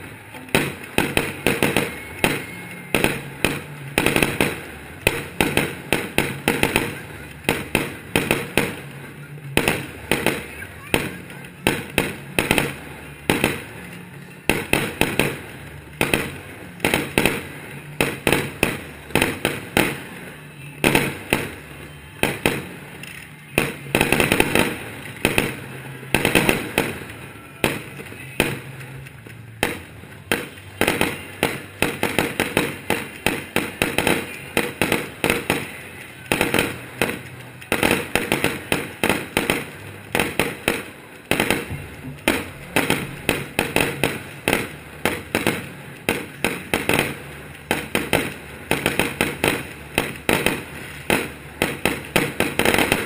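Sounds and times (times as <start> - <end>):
fireworks bursting bangs: 0.0 - 53.0
fireworks crackling: 0.0 - 53.0.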